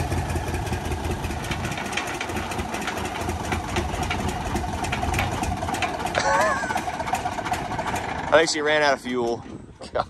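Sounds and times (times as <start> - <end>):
locomotive diesel engine running: 0.0 - 9.8.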